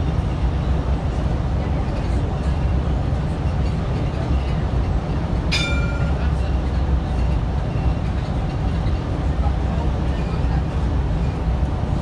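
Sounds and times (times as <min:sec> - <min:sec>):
bus engine and tyre rumble: 0:00.0 - 0:12.0.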